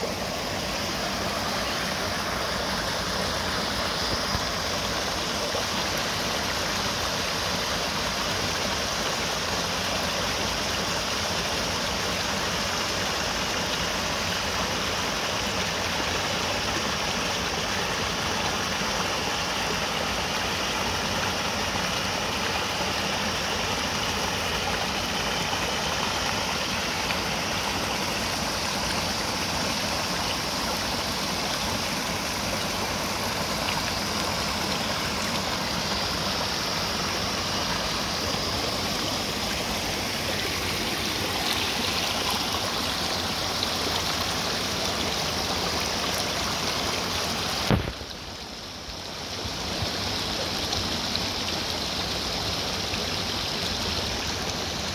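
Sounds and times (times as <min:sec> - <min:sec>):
stream water splashing over rocks: 0:00.0 - 0:54.9.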